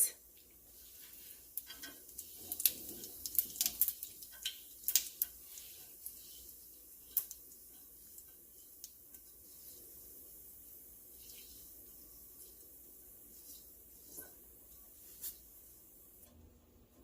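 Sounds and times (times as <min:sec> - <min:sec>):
seeds crackling in hot oil: 0:00.0 - 0:17.0.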